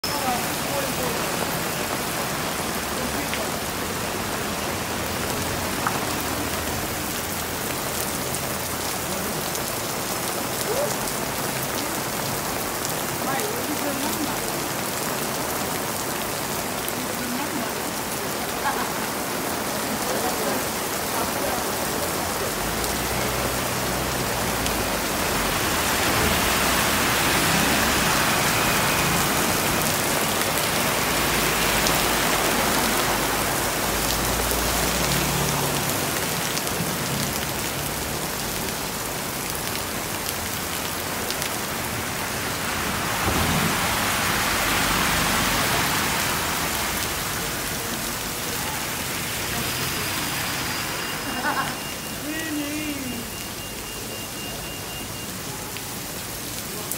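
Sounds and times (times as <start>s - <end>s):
heavy rain on road: 0.0s - 56.9s.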